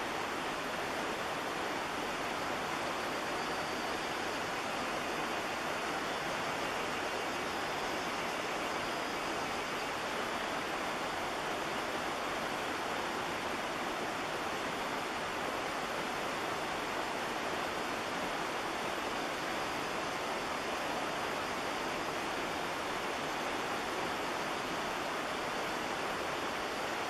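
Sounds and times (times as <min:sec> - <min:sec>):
faint high whine: 0:00.0 - 0:27.0
steady hiss: 0:00.0 - 0:27.0.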